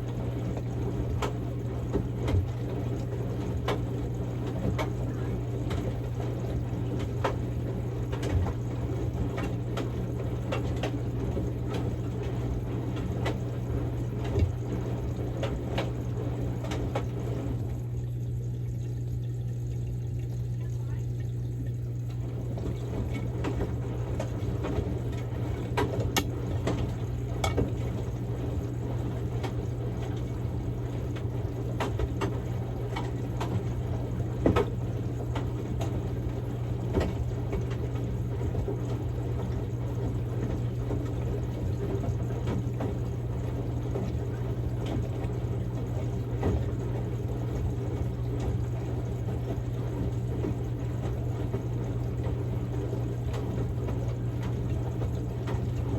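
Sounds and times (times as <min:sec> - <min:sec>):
washing machine motor hum: 0:00.0 - 0:55.9
water sloshing: 0:00.0 - 0:55.9.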